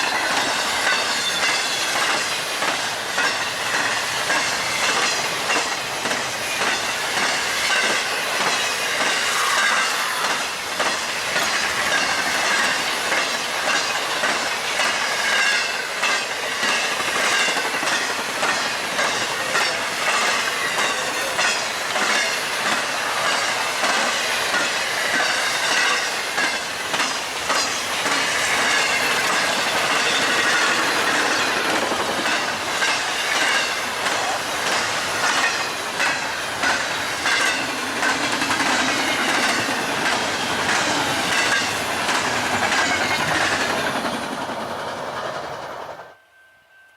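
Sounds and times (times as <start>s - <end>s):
wheels clickety-clack: 0.0s - 46.1s
train wheels rumbling on rail: 0.0s - 46.2s.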